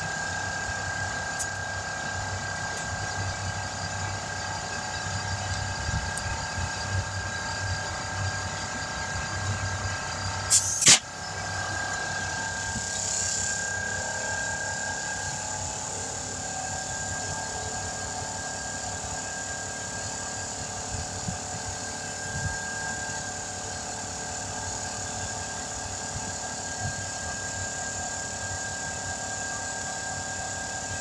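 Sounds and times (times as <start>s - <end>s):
motor humming with high tone: 0.0s - 31.0s.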